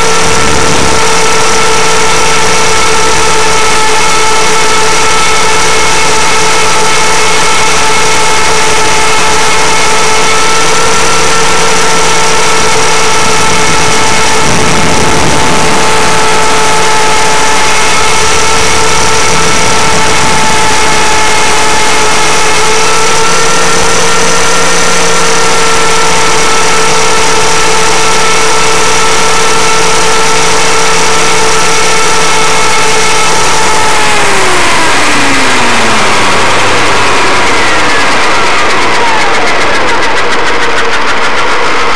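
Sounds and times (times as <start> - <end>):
rc helicopter motor whine: 0.0 - 41.9.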